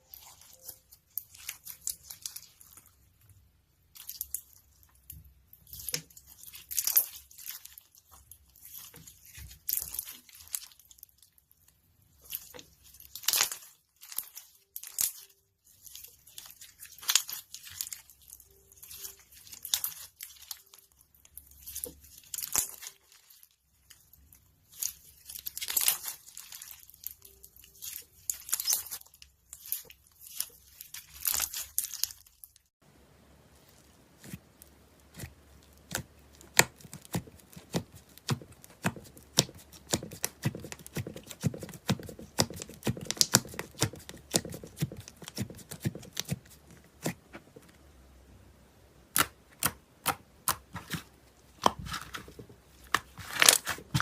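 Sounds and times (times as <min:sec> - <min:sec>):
slime crackling and popping: 0:00.0 - 0:03.3, 0:03.9 - 0:32.7, 0:33.6 - 0:47.4, 0:49.1 - 0:54.0.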